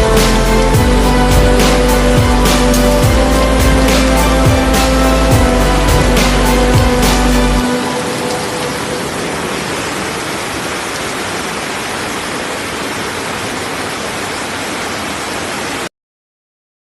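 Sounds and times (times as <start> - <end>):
water rushing: 0.0 - 15.9.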